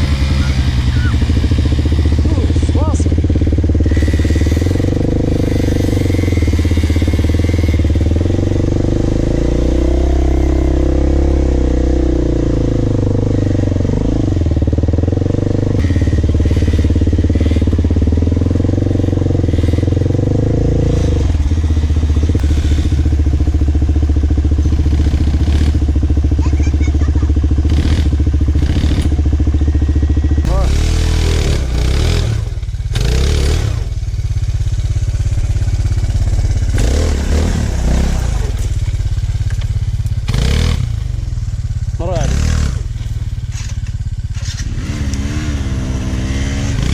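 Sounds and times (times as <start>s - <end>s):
motorbike engine running: 0.0s - 46.9s.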